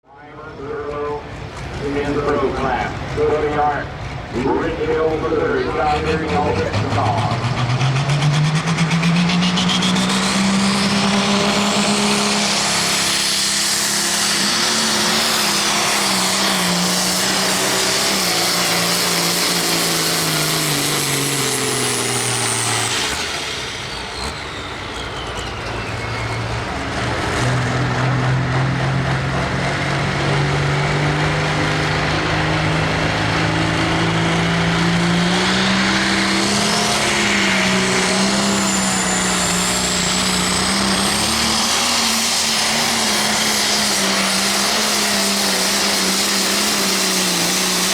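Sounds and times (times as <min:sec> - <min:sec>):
diesel tractor engine running hard: 0:00.0 - 0:47.9
high turbo whine: 0:00.0 - 0:47.9.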